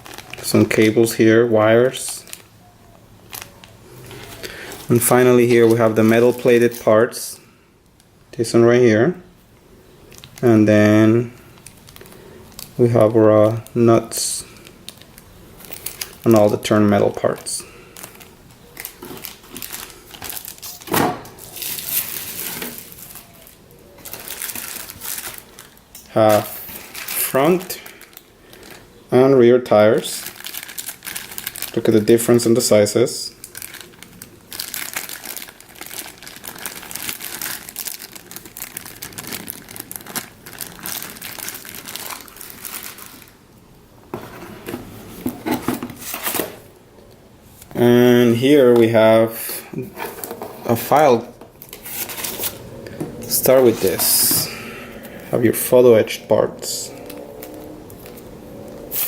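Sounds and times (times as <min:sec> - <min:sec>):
plastic bags crinkling: 0:00.0 - 0:06.8, 0:10.0 - 0:29.0, 0:29.7 - 0:46.8, 0:47.5 - 0:55.8, 0:56.7 - 0:59.0.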